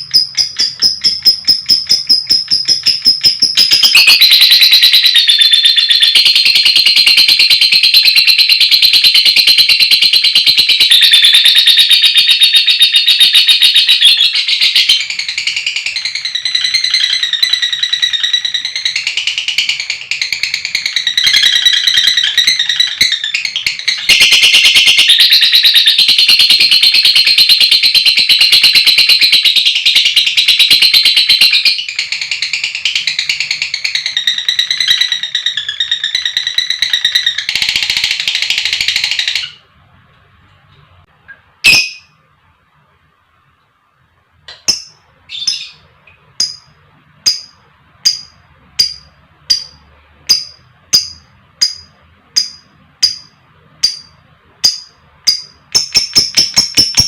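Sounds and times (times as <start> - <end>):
lovebird chattering trill: 0.0 - 39.6, 41.6 - 42.2, 44.5 - 57.0
bird chirps: 0.0 - 39.7, 40.7 - 42.2, 44.5 - 57.0.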